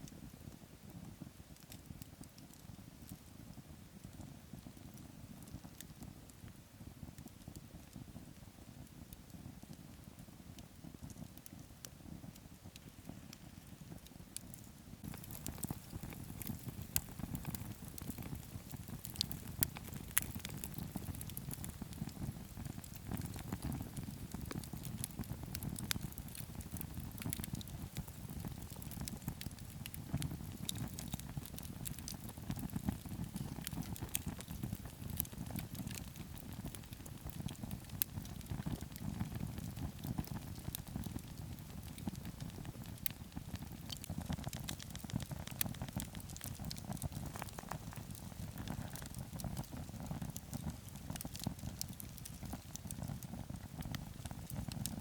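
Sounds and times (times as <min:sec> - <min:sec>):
burning wood crackling and popping: 0:00.0 - 0:55.0
low rumble of flames: 0:00.0 - 0:55.0.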